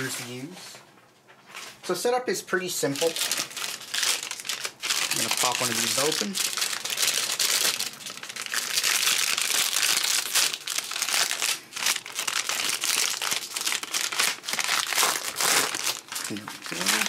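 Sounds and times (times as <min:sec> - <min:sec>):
plastic bag crinkling: 0:02.8 - 0:17.0.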